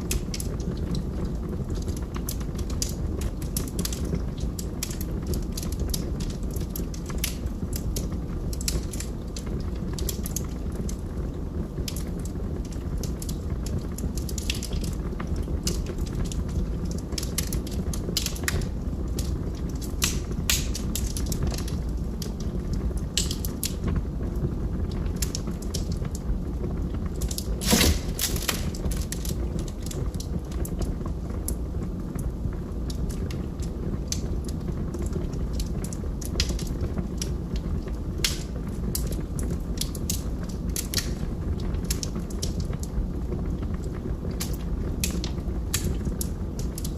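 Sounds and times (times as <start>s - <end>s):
log fire crackling and popping: 0.0s - 46.9s.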